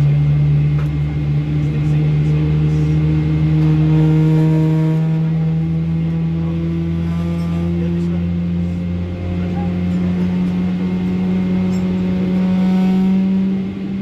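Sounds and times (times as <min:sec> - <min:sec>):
aircraft cabin drone: 0:00.0 - 0:14.0.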